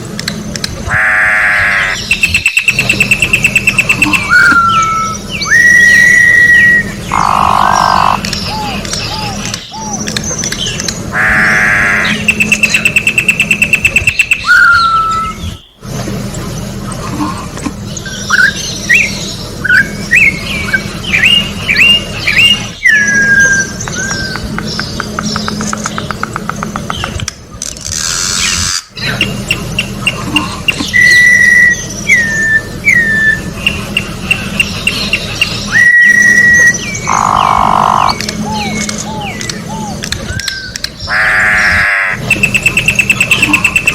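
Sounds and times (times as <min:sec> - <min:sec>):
bird whistling song: 0:01.7 - 0:15.8, 0:18.0 - 0:26.2, 0:28.1 - 0:41.6, 0:42.2 - 0:43.9.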